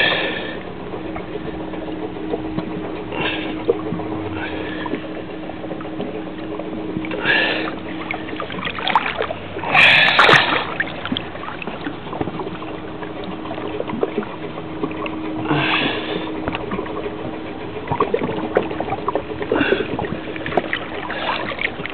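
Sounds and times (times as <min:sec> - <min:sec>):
faint steady hum: 0:00.0 - 0:21.9
water splashing against hull: 0:00.0 - 0:21.9.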